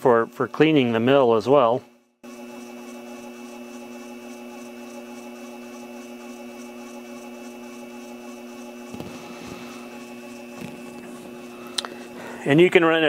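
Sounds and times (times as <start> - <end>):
mill spindle motor humming: 0.0 - 13.0.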